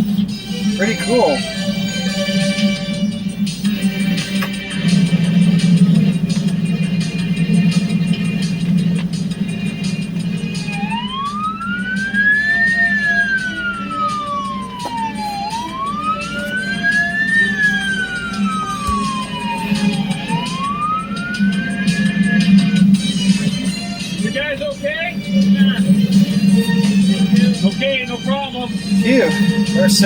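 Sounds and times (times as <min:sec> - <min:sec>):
steady low drone: 0:00.0 - 0:24.2
wailing emergency siren: 0:00.4 - 0:24.3, 0:25.4 - 0:30.0.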